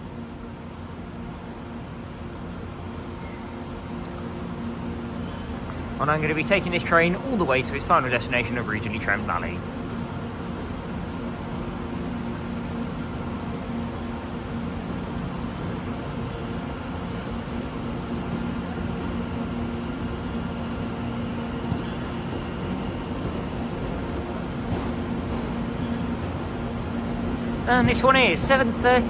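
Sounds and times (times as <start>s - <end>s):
electric train equipment humming: 0.0s - 29.0s.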